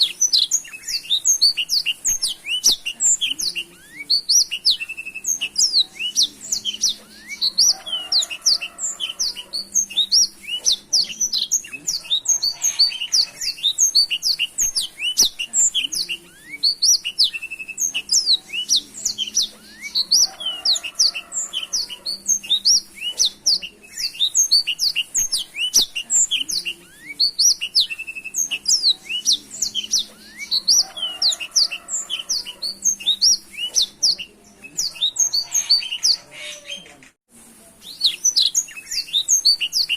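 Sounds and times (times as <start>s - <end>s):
canary singing twittering trills: 0.0s - 36.9s, 37.9s - 39.9s.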